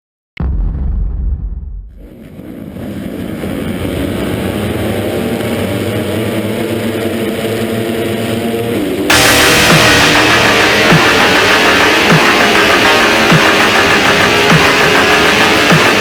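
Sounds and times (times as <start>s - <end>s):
motocross bike engine running hard: 2.0s - 16.0s.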